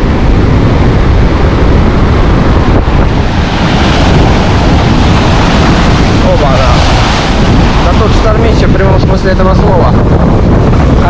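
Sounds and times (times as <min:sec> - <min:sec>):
surf breaking on shore: 0:00.0 - 0:11.0
wind buffeting microphone: 0:00.0 - 0:11.0.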